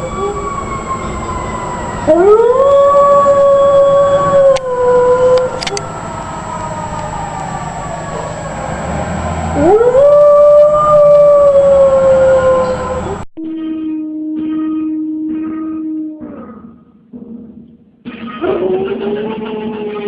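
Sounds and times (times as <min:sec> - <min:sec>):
dogs howling: 0:00.0 - 0:16.4.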